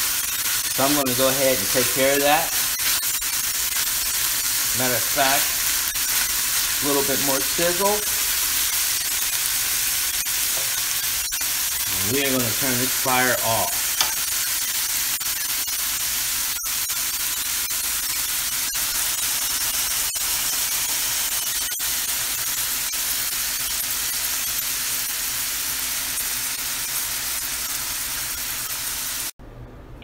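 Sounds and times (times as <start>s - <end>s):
meat sizzling in a frying pan: 0.0s - 29.3s.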